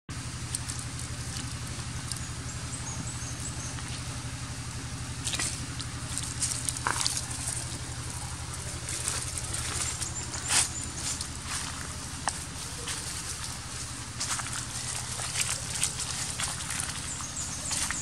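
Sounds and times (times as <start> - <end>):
low motor drone: 0.1 - 18.0
dry leaves crackling and rustling: 0.2 - 18.0.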